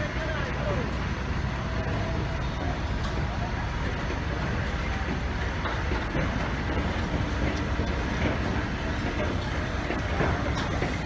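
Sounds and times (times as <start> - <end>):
moving vehicle rumbling: 0.0 - 11.0.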